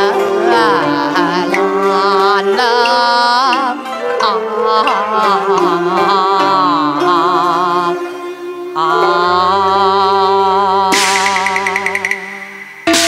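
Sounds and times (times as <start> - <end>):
opera instrumental ensemble: 0.0 - 13.0.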